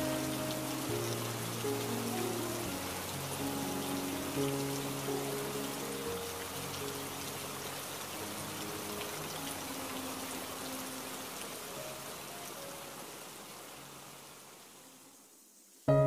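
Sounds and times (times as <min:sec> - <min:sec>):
steady water-like hiss: 0:00.0 - 0:16.0.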